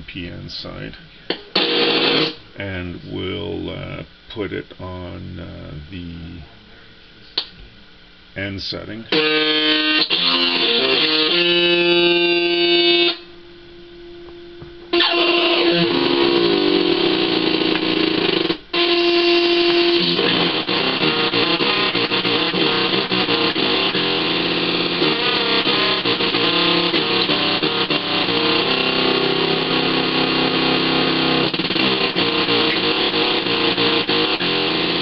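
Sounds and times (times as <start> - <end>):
fuzzed electric guitar: 0.0 - 35.0.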